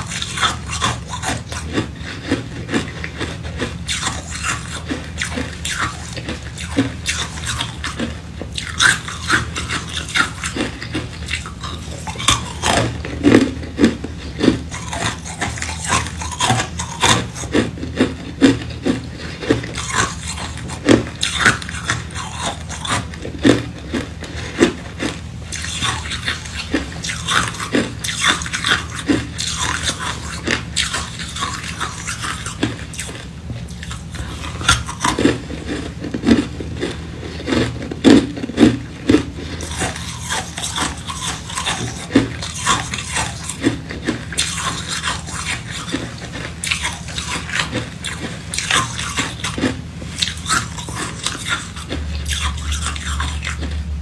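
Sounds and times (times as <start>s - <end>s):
chewing ice cubes: 0.0s - 54.0s
steady low hum: 0.0s - 54.0s.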